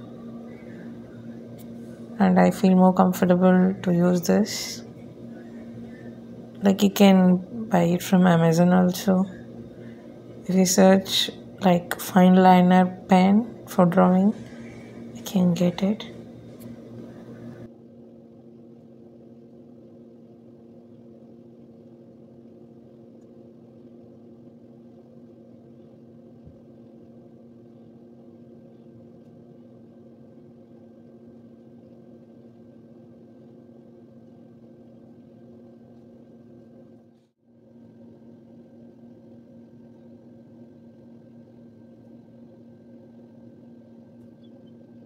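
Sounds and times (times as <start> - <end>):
low hum: 0.0 - 45.0.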